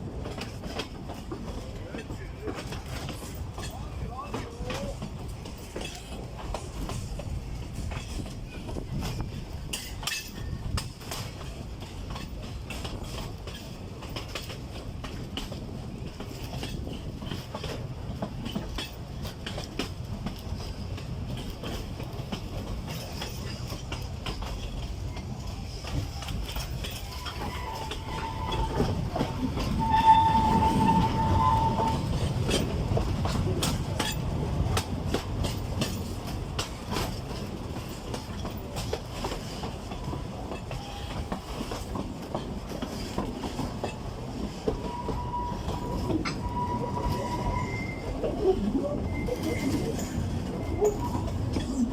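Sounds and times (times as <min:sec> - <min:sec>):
train rumbling along track: 0:00.0 - 0:51.9
wheels clicking over rail joints: 0:00.0 - 0:51.9.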